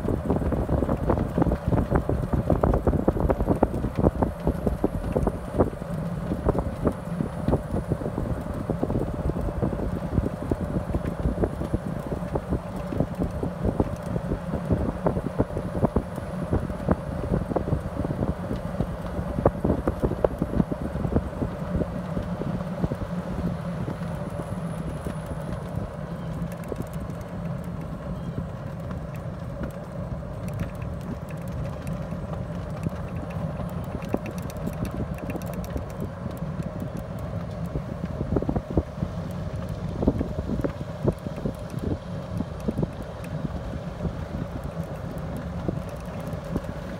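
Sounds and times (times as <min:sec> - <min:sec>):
golf cart running hum: 0:00.0 - 0:46.9.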